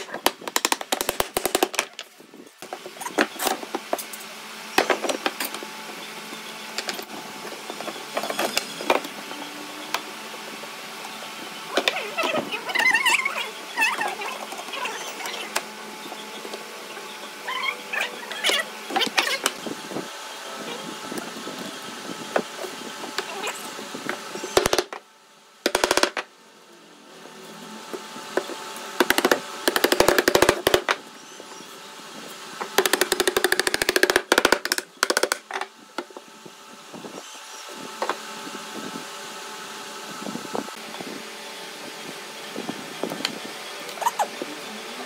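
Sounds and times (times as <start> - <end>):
workshop noise: 0.0 - 41.1.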